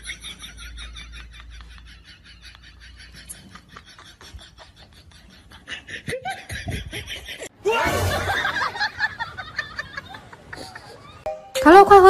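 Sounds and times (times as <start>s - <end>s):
person laughing: 0.0s - 11.2s.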